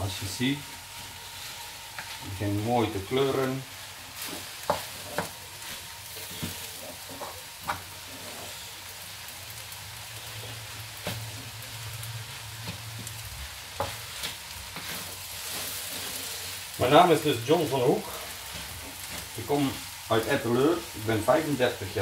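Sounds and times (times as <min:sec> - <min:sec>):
rice sizzling in a wok: 0:00.0 - 0:22.0.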